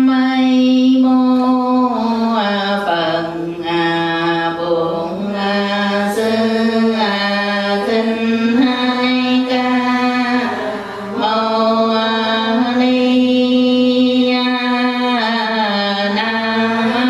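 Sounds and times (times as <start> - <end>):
woman chanting slowly: 0.0 - 17.0.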